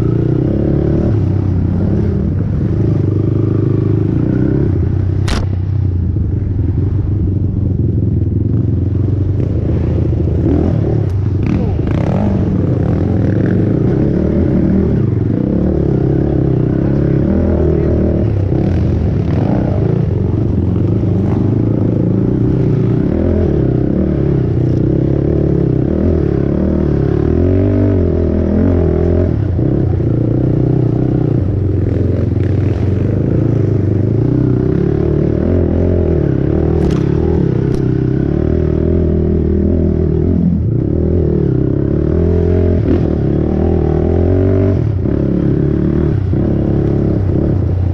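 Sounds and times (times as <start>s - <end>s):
quad bike engine revving: 0.0s - 5.6s, 8.8s - 47.9s.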